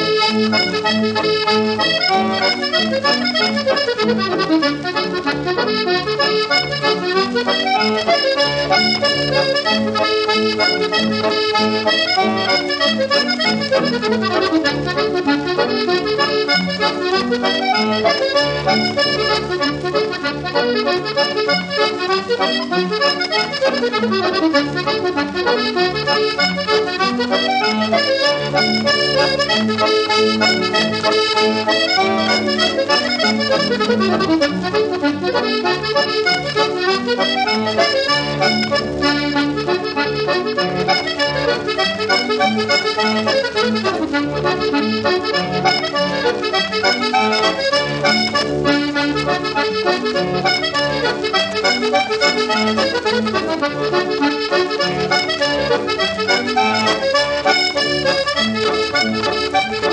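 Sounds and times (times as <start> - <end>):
instrumental music quick notes: 0.0 - 59.9.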